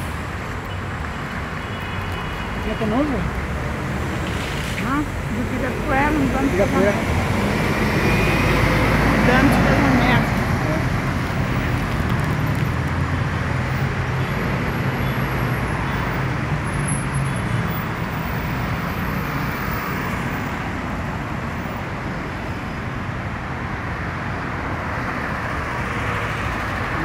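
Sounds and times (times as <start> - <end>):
road traffic rush: 0.0 - 27.0.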